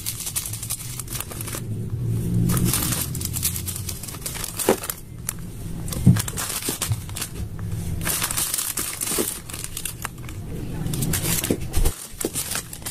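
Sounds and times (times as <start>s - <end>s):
crinkling handling noise: 0.0s - 12.9s.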